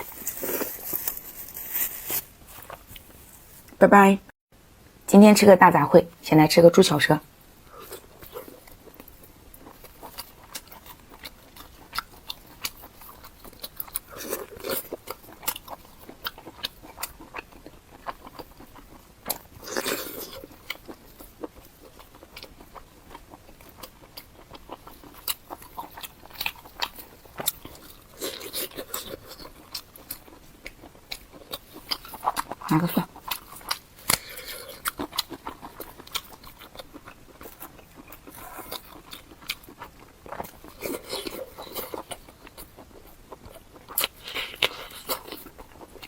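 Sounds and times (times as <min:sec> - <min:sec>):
person chewing close to microphone: 0:00.0 - 0:03.8, 0:07.6 - 0:46.0.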